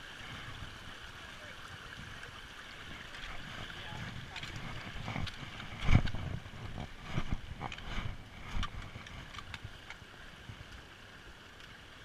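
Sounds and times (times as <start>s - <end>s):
wind rumble on microphone: 0.0s - 11.2s.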